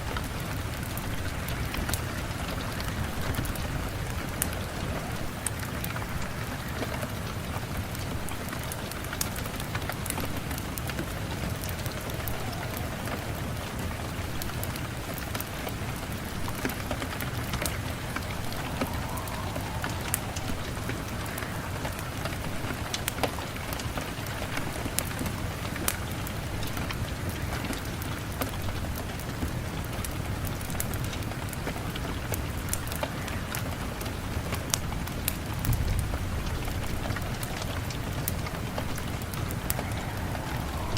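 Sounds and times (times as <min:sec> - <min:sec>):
steady rain falling: 0:00.0 - 0:40.9
wood fire crackling: 0:00.0 - 0:40.9.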